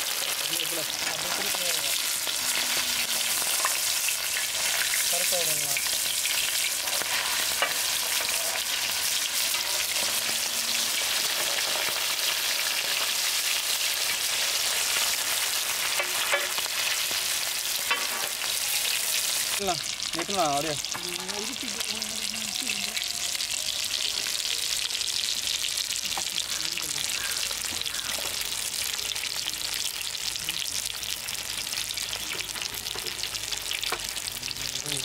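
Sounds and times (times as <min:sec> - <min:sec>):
fish sizzling in oil: 0:00.0 - 0:35.0.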